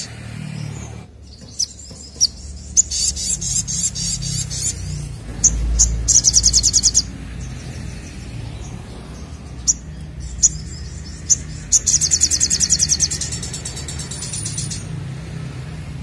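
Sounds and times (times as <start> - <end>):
sunbird singing: 0.0 - 15.0.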